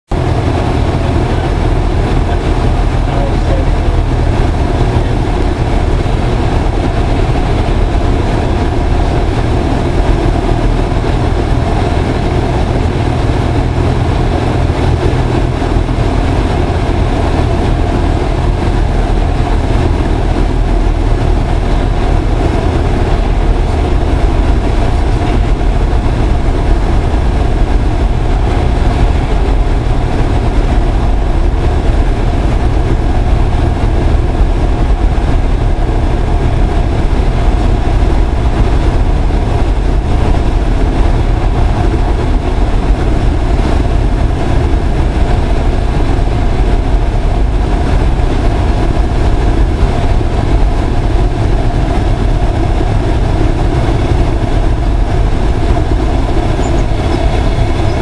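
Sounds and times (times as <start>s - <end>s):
airflow rushing: 0.1s - 58.0s
airplane engine idling: 0.1s - 58.0s.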